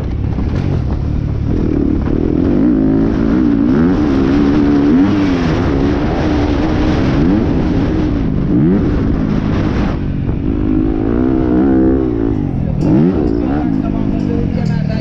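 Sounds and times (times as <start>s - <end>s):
motorcycle engine revving: 0.0s - 15.0s
rushing wind noise: 0.0s - 15.0s.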